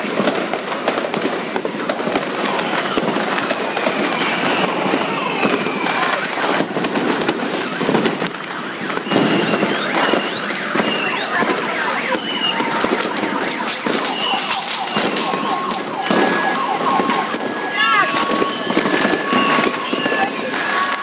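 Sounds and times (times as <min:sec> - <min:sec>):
fireworks crackling and banging: 0:00.0 - 0:21.0
whistling rockets: 0:00.2 - 0:21.0.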